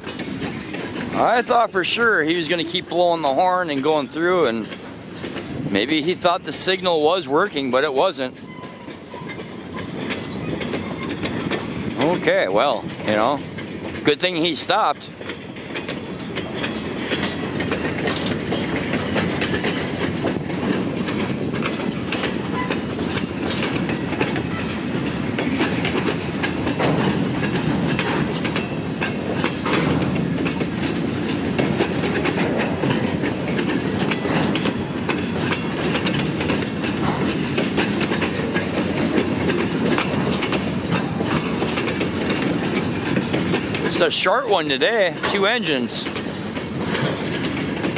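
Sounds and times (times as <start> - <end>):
clanks over rail joints: 0.0 - 47.9
train wheels rumbling on rail: 0.0 - 47.9.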